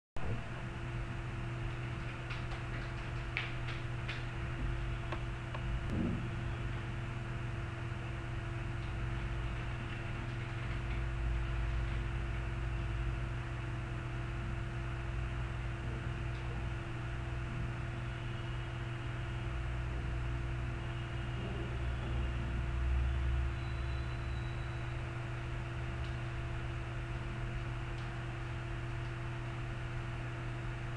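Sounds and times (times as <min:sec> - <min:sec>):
low electrical hum: 0:00.2 - 0:30.9.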